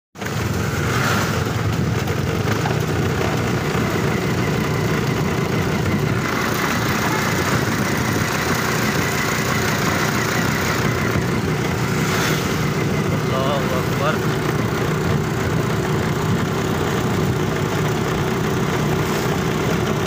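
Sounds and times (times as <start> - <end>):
motorcycle engine running: 0.2 - 20.0
road and air noise: 0.2 - 20.0.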